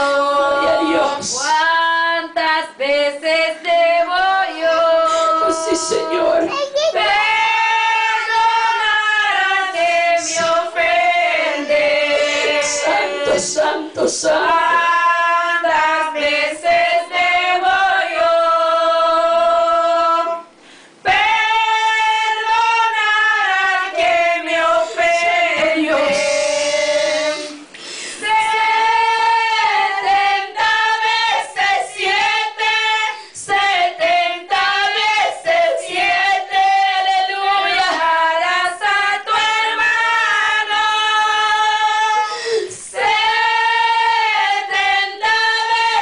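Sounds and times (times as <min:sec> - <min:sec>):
women singing hymn unaccompanied: 0:00.0 - 0:46.0.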